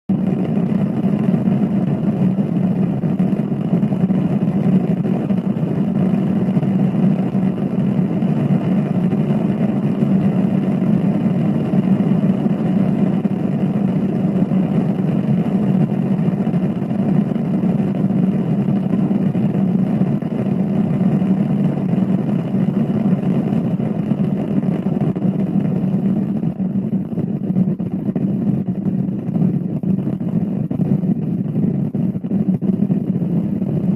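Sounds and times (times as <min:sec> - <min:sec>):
low rumble: 0:00.1 - 0:33.9.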